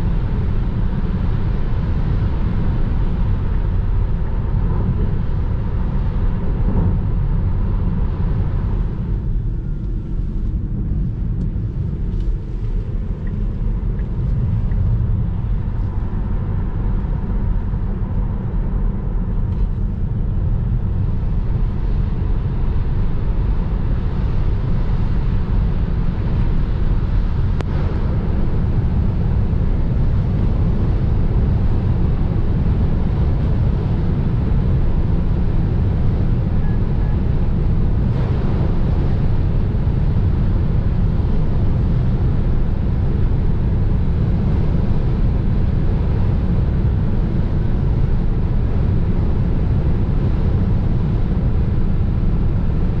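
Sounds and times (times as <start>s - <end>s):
tyre and wind roar in car cabin: 0.0s - 53.0s.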